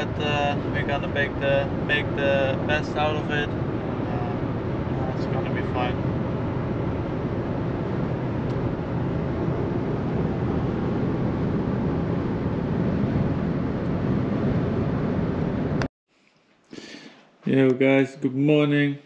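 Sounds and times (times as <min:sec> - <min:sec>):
road and engine noise in car cabin: 0:00.0 - 0:15.9.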